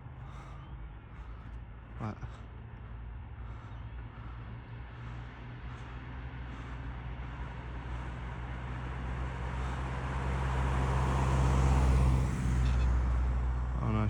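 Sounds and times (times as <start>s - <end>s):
vehicle engine and tyre noise: 0.0s - 14.0s.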